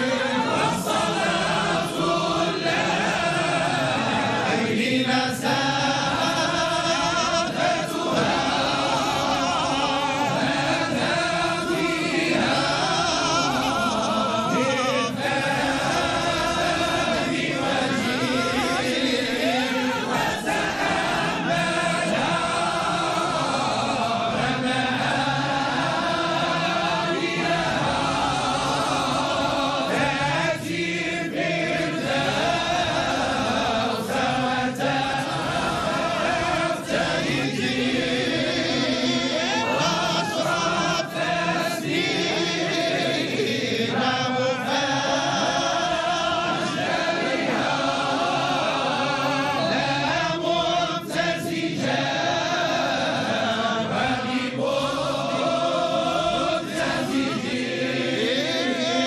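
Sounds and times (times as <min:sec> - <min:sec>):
group of voices chanting: 0:00.0 - 0:59.0.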